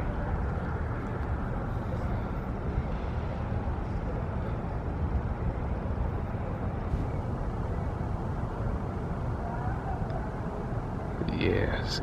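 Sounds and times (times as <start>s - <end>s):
low city hum: 0.0s - 12.0s.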